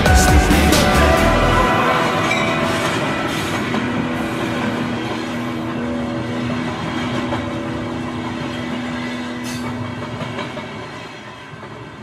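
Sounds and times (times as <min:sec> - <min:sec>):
rail clatter: 0:00.0 - 0:12.0
train rumbling past: 0:00.0 - 0:12.0.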